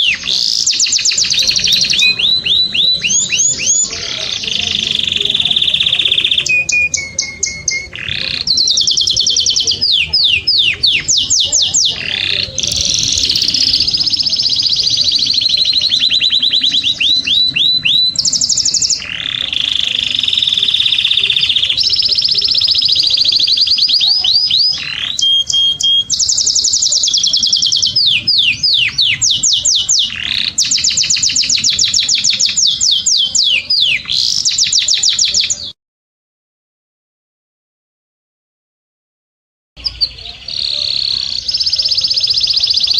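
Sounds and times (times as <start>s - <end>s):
canary singing trills: 0.0s - 35.8s, 39.8s - 42.9s.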